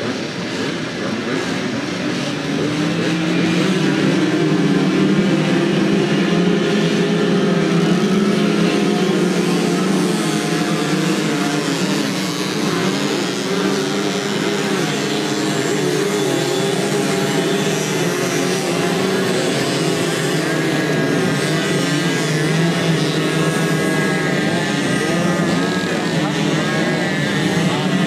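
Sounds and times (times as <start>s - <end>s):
moped engines buzzing: 0.0s - 28.0s.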